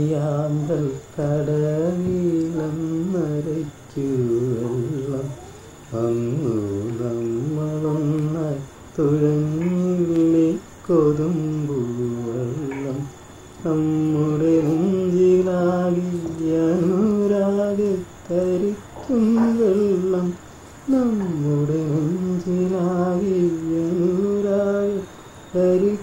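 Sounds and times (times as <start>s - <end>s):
person singing unaccompanied: 0.0s - 26.0s.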